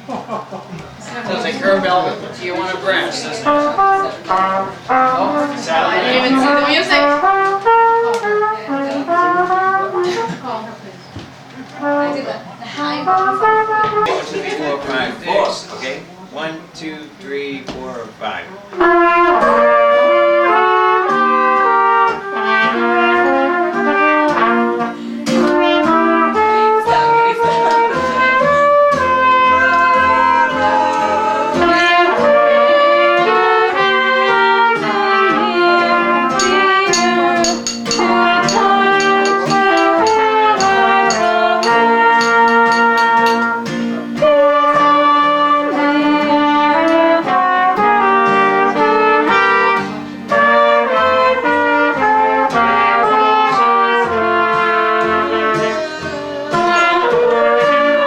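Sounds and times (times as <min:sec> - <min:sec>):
brass band playing: 0:02.8 - 0:10.3, 0:11.8 - 0:14.2, 0:18.8 - 0:55.9, 0:56.5 - 0:58.0.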